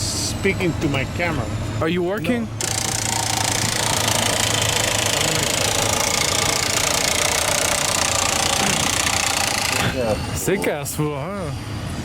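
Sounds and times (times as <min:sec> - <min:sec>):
large engine idling: 0:00.0 - 0:11.7.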